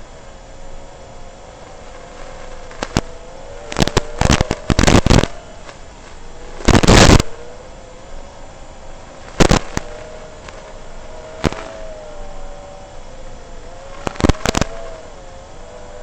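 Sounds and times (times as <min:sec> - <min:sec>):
drone motors whining: 0:00.0 - 0:16.0
loud bursts of noise: 0:00.0 - 0:16.0.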